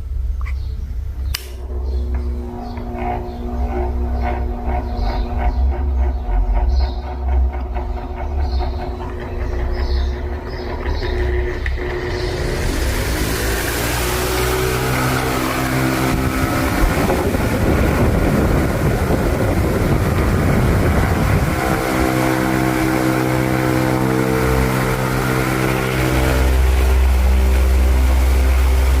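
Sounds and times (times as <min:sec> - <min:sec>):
deeper hum: 0:00.0 - 0:29.0
electric fan motor humming: 0:00.0 - 0:29.0.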